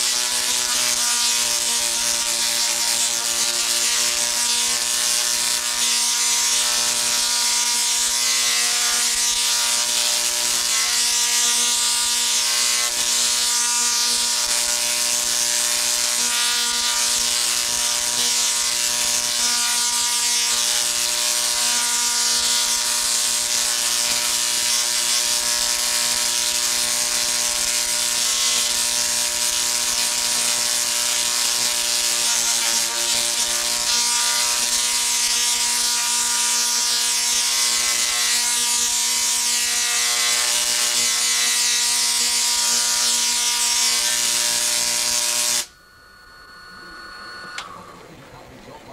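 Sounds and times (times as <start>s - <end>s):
tesla coil buzzing: 0.0s - 48.4s.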